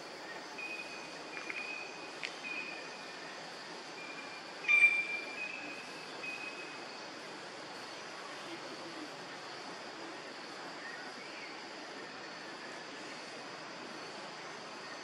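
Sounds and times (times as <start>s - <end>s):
insects hissing: 0.0s - 15.0s.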